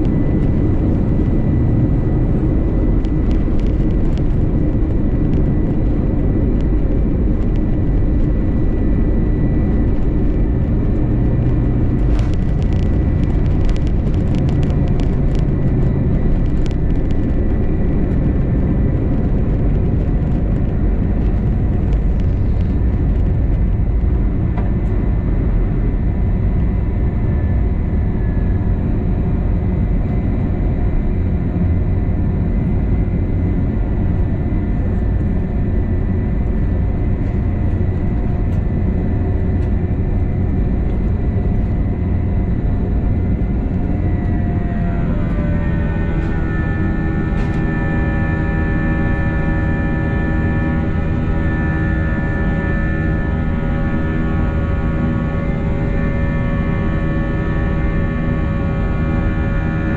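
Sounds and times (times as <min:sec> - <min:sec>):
jet engines rumbling in cabin: 0:00.0 - 0:59.9
steady whining tones: 0:00.0 - 0:59.9.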